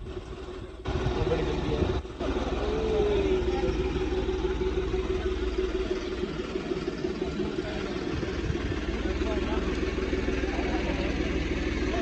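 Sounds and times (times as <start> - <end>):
low rumble: 0.0 - 12.0
outdoor background noise: 0.0 - 12.0.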